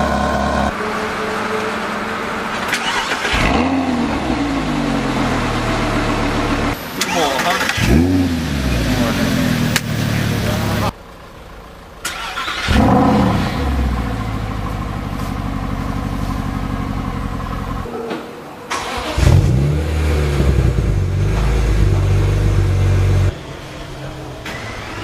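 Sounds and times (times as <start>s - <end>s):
car engine starting and idling: 0.0s - 17.9s, 18.5s - 25.0s
second car engine starting: 0.0s - 17.9s, 18.6s - 25.0s.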